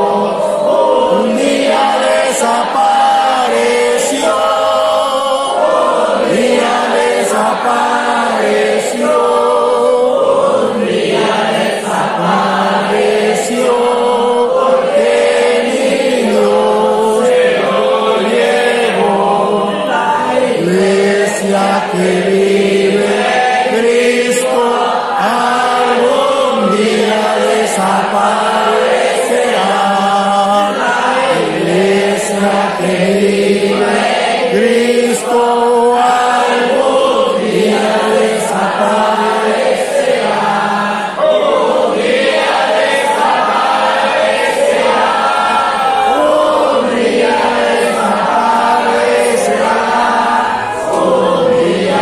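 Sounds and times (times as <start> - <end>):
congregation singing a hymn: 0.0 - 52.0.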